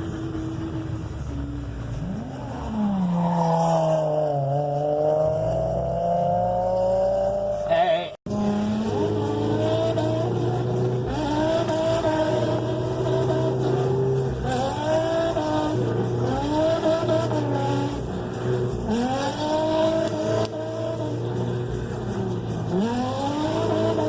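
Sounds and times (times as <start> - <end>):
car engine revving: 0.0 - 7.7, 8.3 - 24.0
tires squealing: 0.0 - 24.0.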